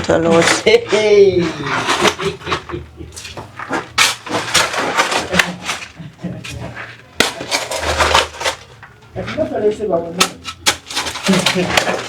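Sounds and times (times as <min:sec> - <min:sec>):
sharp knocks and scrapes: 0:00.0 - 0:12.0.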